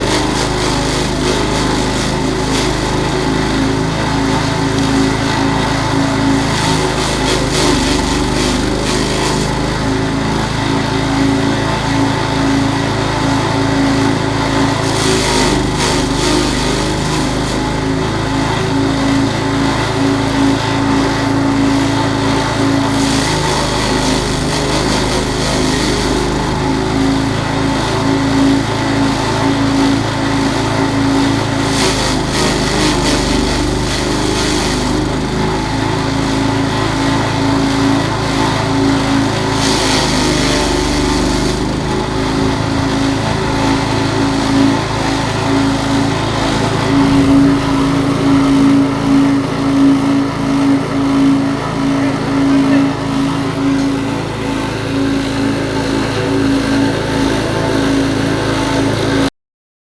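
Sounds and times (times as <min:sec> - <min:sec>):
grass chopper engine running: 0:00.0 - 0:59.3.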